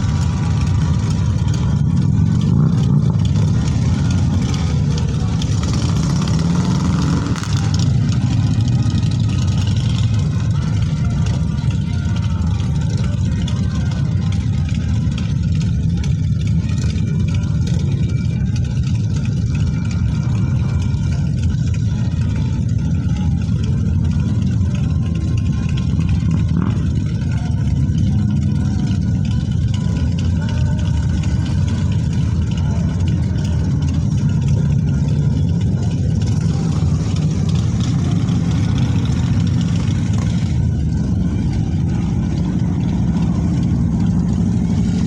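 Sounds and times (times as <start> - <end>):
motorcycle engines rumbling: 0.0 - 45.0.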